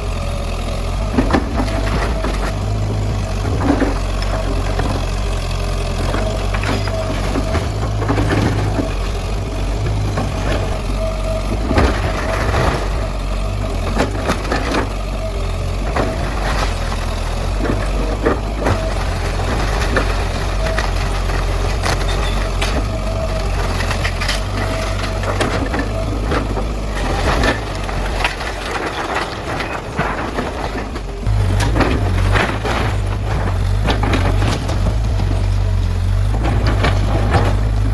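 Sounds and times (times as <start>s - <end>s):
debris crunching and cracking: 0.0s - 37.9s
excavator diesel engine: 0.0s - 37.9s.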